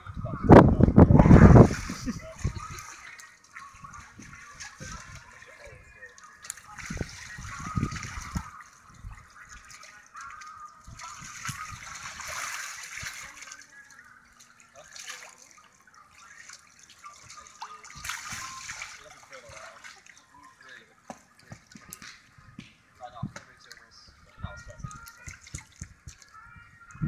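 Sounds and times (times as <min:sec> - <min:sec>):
water sloshing and splashing: 0:01.2 - 0:22.5, 0:23.1 - 0:26.4.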